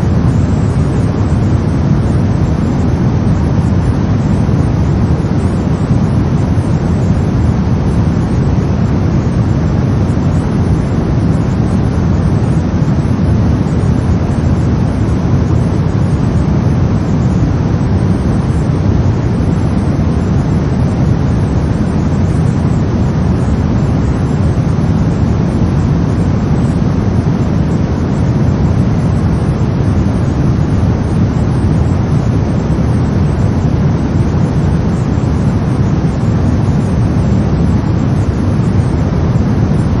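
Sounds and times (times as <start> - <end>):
brown noise hiss: 0.0 - 40.0.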